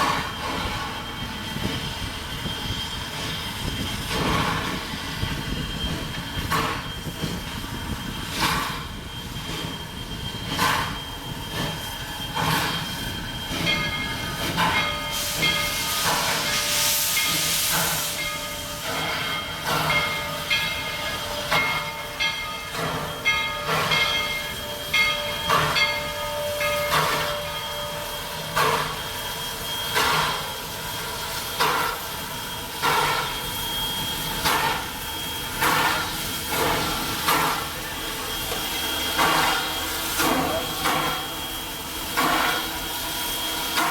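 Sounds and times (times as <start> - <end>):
steam hissing: 0.0 - 43.9
steam locomotives chuffing: 0.0 - 43.9.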